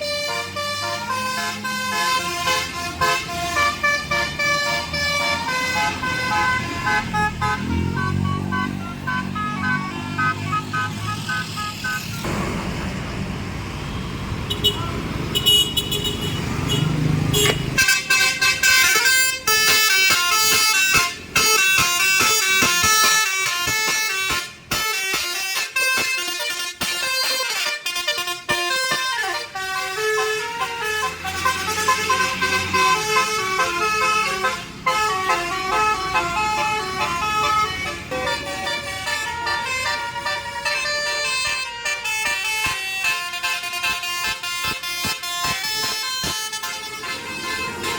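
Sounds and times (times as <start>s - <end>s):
bus horn playing a melody: 0.0s - 12.4s, 14.5s - 47.9s
low road rumble: 0.0s - 47.9s.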